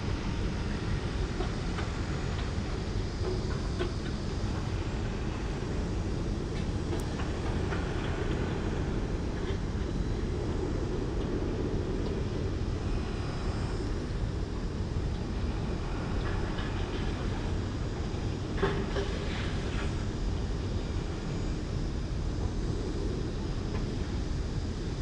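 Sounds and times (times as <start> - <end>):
low rumbling noise: 0.0 - 25.0.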